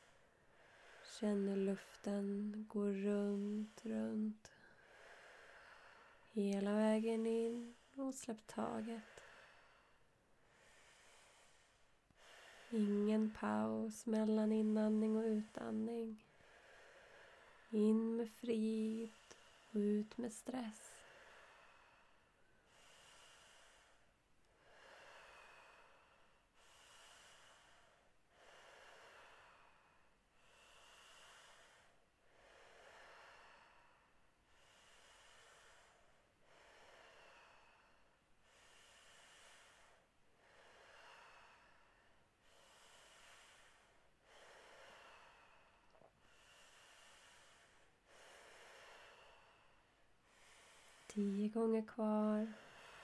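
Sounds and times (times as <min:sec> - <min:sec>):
deep rhythmic breathing: 0:00.0 - 0:53.0.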